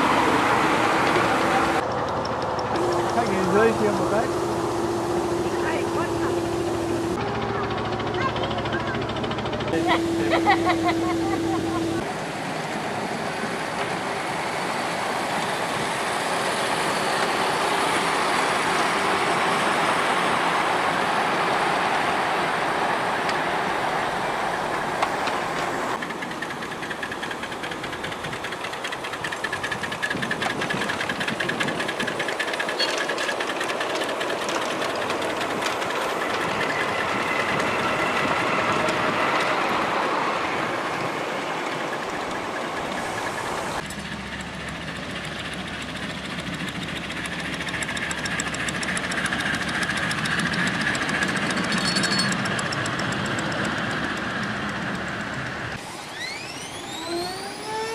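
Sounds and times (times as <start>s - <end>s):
miniature train rumbling on track: 0.0s - 57.9s.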